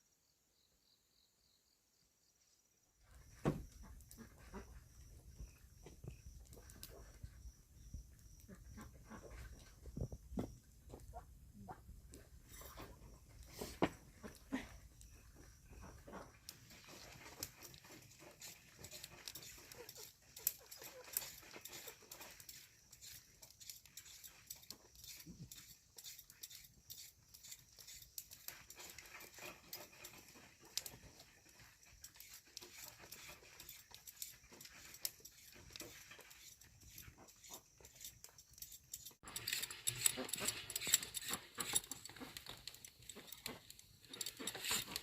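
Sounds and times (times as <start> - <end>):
faint animal sounds: 0.0 - 45.0.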